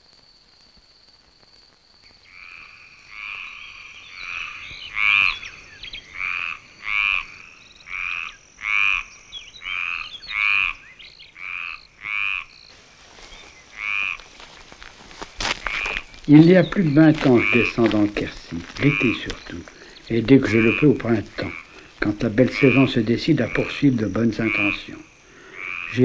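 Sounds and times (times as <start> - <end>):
frog croaking: 2.0 - 26.0.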